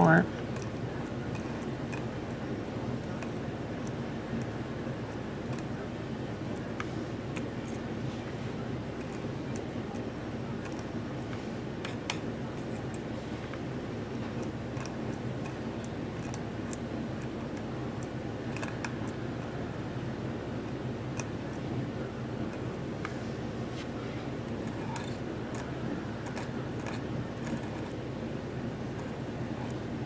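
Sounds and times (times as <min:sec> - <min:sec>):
low background hum: 0:00.0 - 0:30.0.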